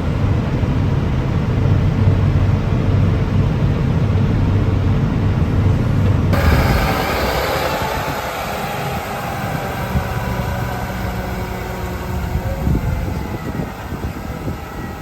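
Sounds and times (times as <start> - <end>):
farm machinery engine hum: 0.0 - 15.0.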